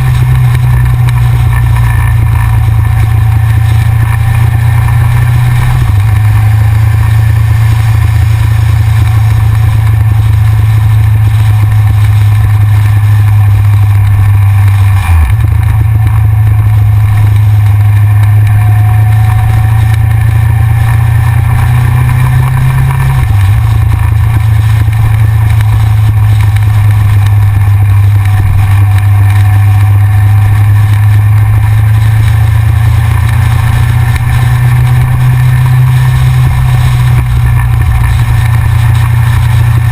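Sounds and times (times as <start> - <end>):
motorcycle engine: 0.0 - 39.9
wind rumble: 0.0 - 39.9.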